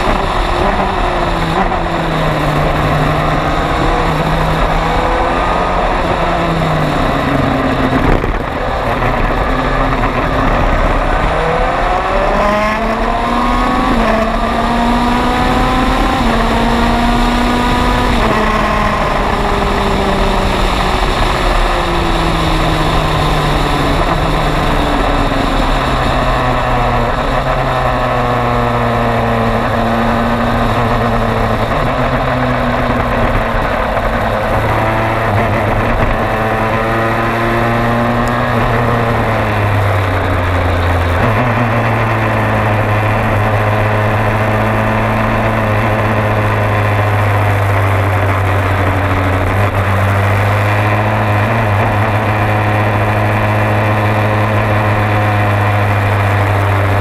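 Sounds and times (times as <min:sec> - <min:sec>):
race car engine: 0:00.0 - 0:57.0
wind rush: 0:00.0 - 0:57.0.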